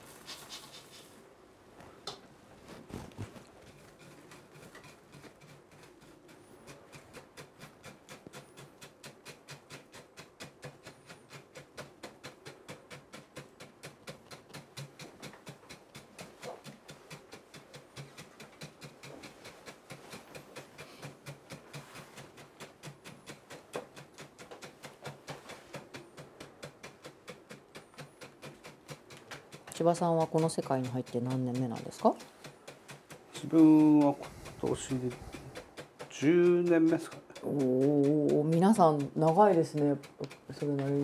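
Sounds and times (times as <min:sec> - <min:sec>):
wooden stick tapping into pellets: 0:04.1 - 0:41.0.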